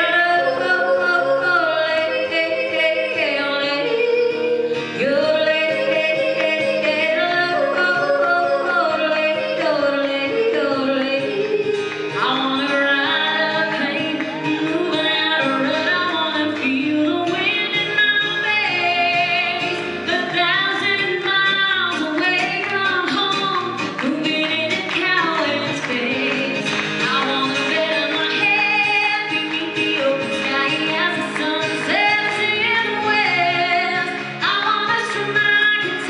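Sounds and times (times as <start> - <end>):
acoustic guitar accompaniment: 0.0 - 36.0
woman yodeling: 0.0 - 36.0.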